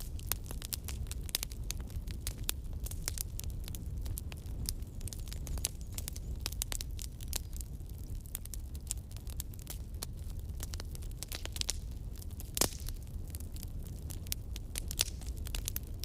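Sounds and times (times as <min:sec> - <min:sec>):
campfire crackling and popping: 0:00.0 - 0:16.0
flames rumbling: 0:00.0 - 0:16.0.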